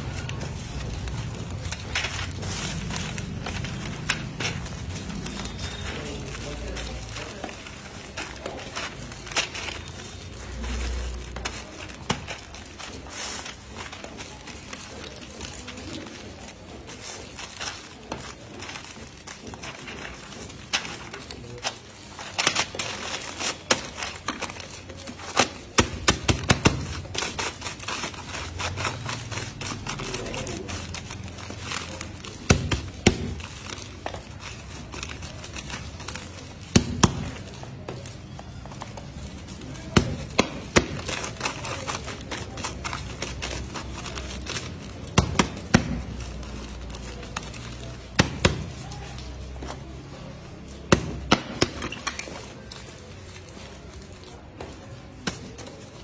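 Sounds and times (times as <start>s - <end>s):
paper rustling: 0.0s - 56.0s.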